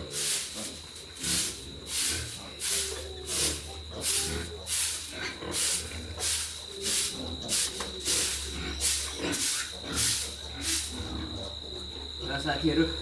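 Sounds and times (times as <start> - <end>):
broom sweeping floor: 0.0 - 11.1.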